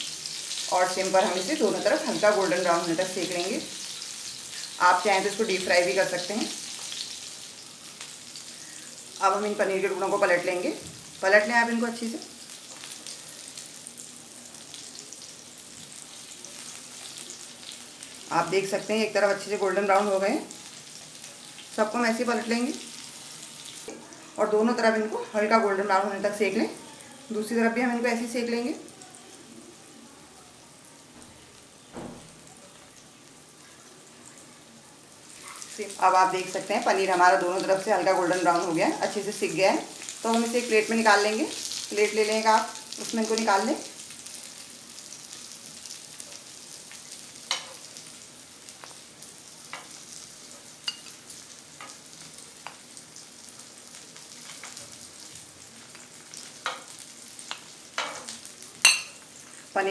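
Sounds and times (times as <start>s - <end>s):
cheese sizzling in oil: 0.0s - 59.9s.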